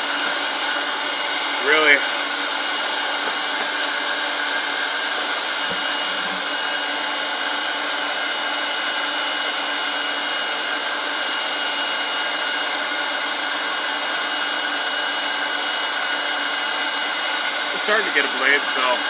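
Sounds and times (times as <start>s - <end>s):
electric air blower hissing: 0.0s - 19.0s.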